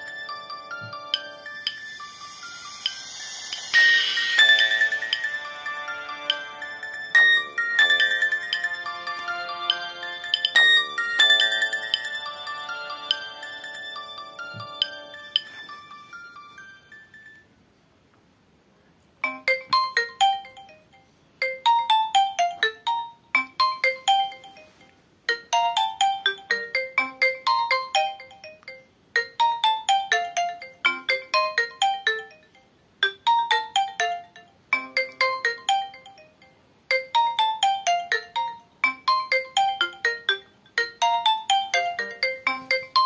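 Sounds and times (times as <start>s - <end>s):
phone ringtone chiming: 0.0s - 17.5s, 19.2s - 43.0s.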